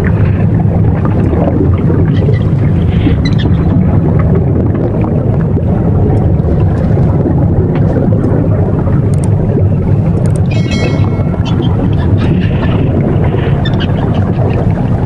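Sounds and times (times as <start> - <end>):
underwater rumble: 0.0 - 15.0.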